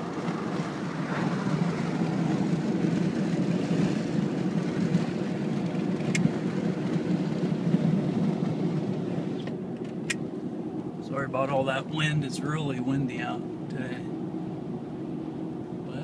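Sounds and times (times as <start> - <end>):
car engine drone: 0.0 - 16.0
wind and road noise in car: 0.0 - 16.0.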